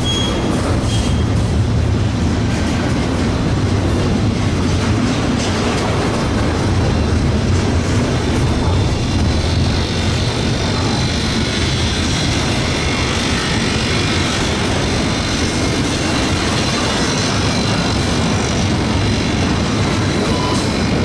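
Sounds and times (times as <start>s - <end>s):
steel train wheels rumbling: 0.0s - 21.0s.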